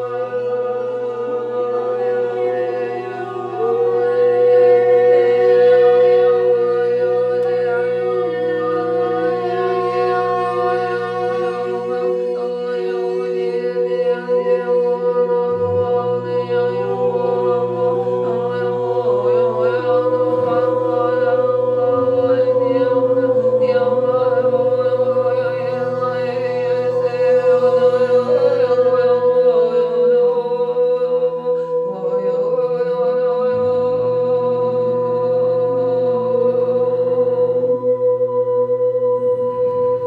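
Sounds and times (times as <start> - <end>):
group chanting held tones: 0.0 - 40.0
steady low drone: 0.0 - 40.0.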